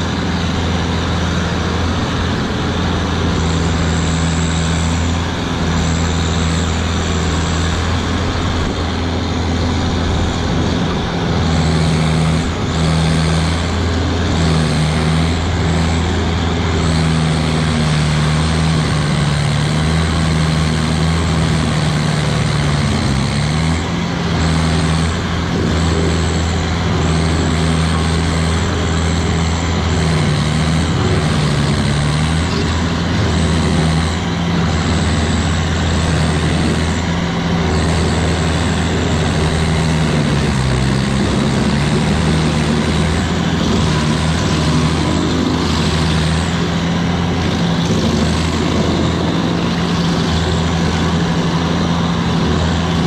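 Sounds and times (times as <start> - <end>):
cutter wheel chipping wood: 0.0 - 53.0
diesel engine under load: 0.0 - 53.0.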